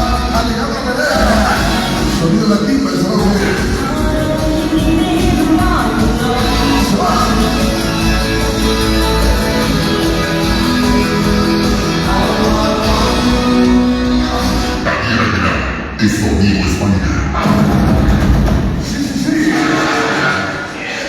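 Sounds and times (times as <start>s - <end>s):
rock and roll music with singing: 0.0s - 20.9s.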